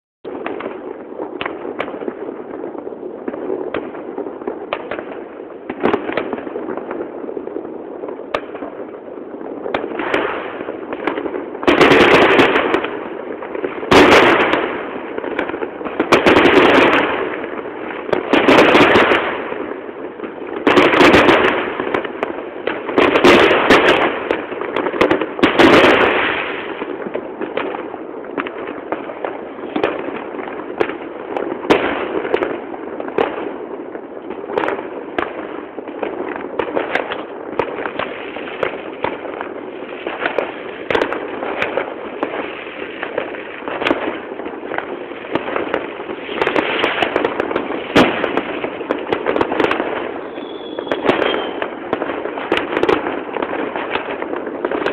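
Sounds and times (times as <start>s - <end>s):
fireworks popping and crackling: 0.2s - 54.9s
loud nearby firework bursts: 0.3s - 54.9s.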